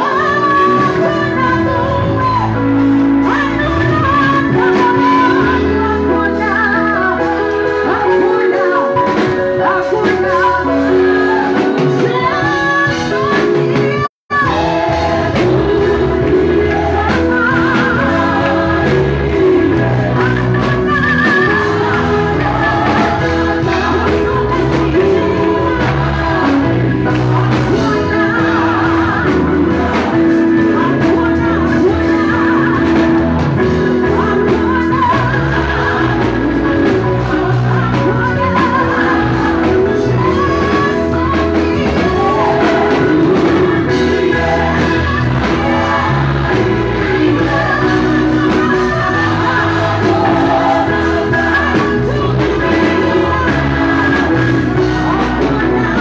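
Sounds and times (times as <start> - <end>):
instrumental accompaniment with bass: 0.0 - 56.0
woman singing into a microphone: 0.0 - 56.0
backing singers: 9.8 - 56.0.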